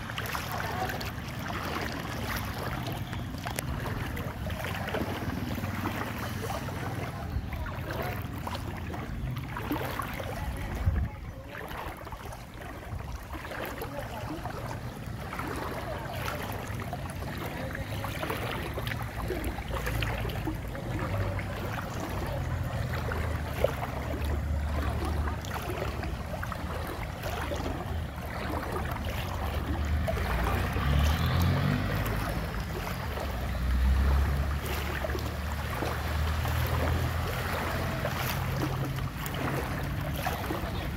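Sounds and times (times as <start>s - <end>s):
floodwater sloshing and splashing: 0.0s - 40.9s.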